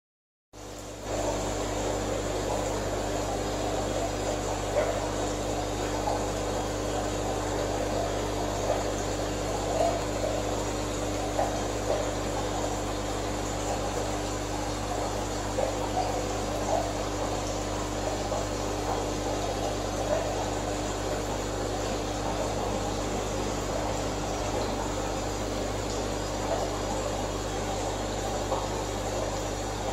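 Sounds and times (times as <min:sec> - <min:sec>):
aquarium filter pump humming: 0:00.6 - 0:29.9
water gurgling: 0:00.6 - 0:29.9.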